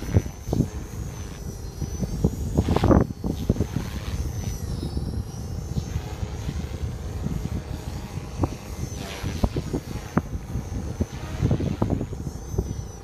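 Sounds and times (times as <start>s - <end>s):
rc helicopter whining: 0.0s - 13.0s
wind buffeting microphone: 0.0s - 13.0s.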